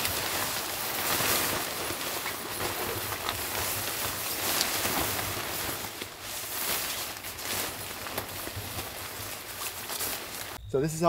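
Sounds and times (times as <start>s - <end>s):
tent fabric rustling: 0.0s - 10.6s.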